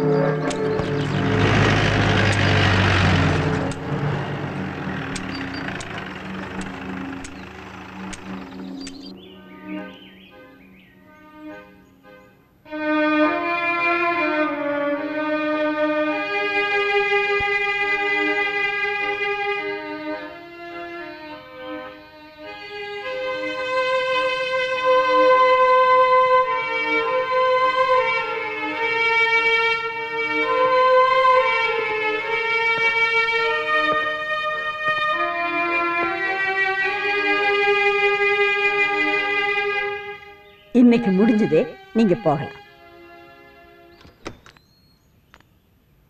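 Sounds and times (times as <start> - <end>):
vehicle driving past: 0.0 - 11.9, 13.7 - 41.9
violin slow melody: 0.0 - 44.1
soft background music: 6.3 - 44.0.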